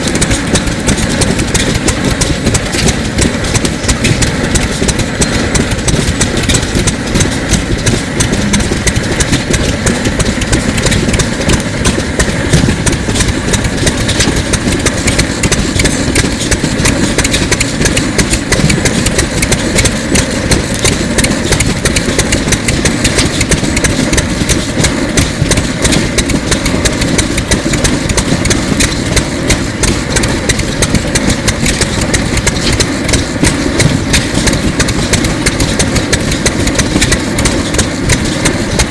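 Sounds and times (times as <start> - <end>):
engine knocking steadily: 0.0 - 38.9.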